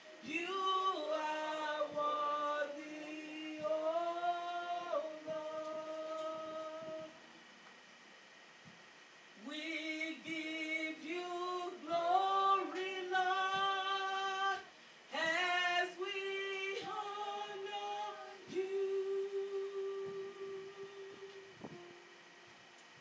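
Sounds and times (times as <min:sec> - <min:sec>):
woman singing unaccompanied: 0:00.0 - 0:07.5, 0:09.4 - 0:22.1.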